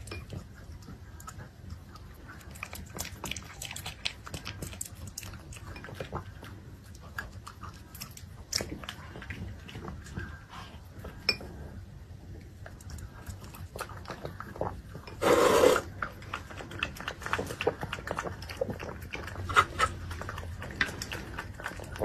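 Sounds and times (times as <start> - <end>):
dog chewing and lapping: 0.0 - 22.0.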